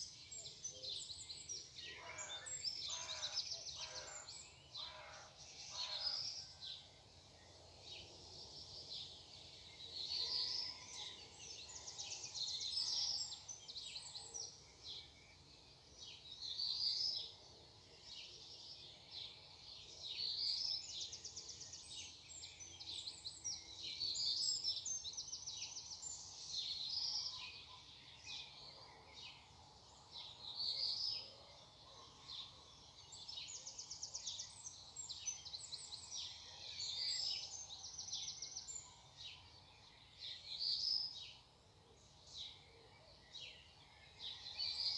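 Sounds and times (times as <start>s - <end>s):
songbirds singing: 0.0s - 44.9s.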